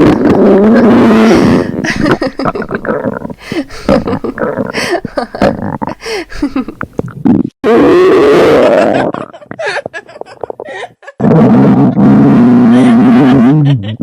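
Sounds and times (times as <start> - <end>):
stomach growl sound effects: 0.0 - 10.6, 11.2 - 13.5.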